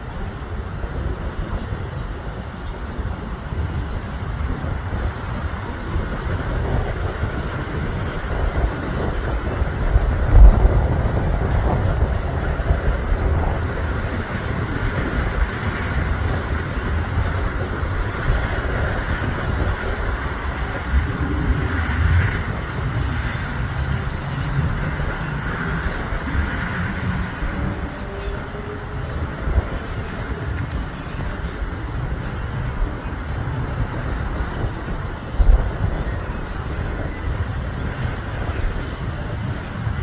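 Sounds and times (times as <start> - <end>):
cars passing on road: 0.0 - 40.0
distant jet engines: 0.0 - 40.0.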